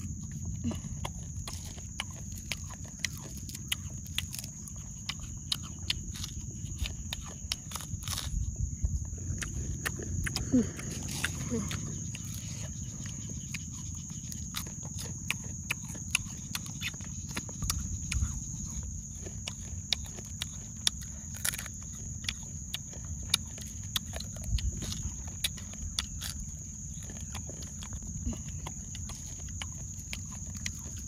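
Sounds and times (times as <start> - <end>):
crunching of fried beetles: 0.0 - 31.0.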